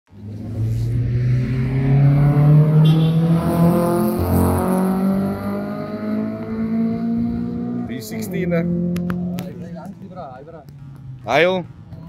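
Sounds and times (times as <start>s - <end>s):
car engine accelerating: 0.1s - 11.2s.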